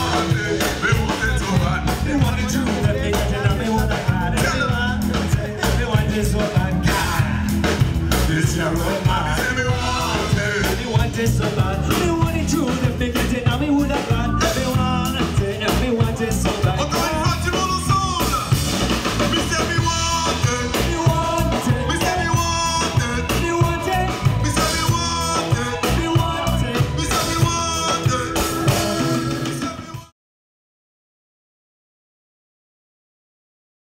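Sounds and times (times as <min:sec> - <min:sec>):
electric bass: 0:00.0 - 0:30.1
man singing into a microphone: 0:00.0 - 0:30.1
drums: 0:00.0 - 0:30.2.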